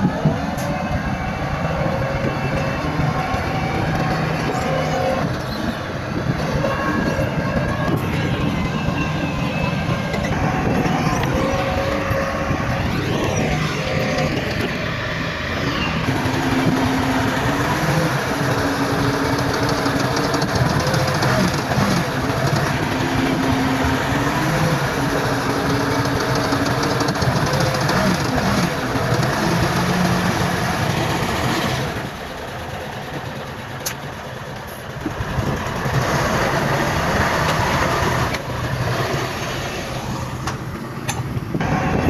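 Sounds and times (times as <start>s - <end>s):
heavy diesel machines working: 0.0s - 42.0s.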